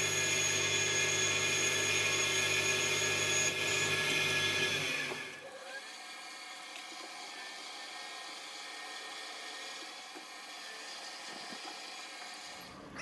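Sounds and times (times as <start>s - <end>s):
lathe hum: 0.0s - 12.7s
metal lathe cutting whir: 0.0s - 12.8s.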